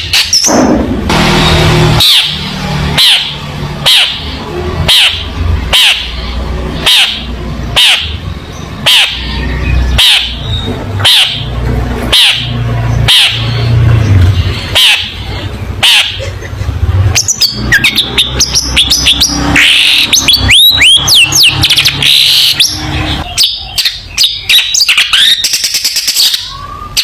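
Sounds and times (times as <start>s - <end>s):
bird harsh calls: 1.4s - 27.0s.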